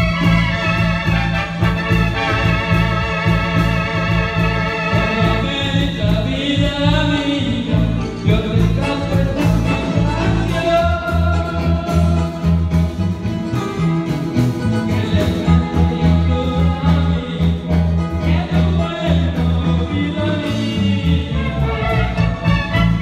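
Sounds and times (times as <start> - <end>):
marimba band music: 0.0 - 23.0.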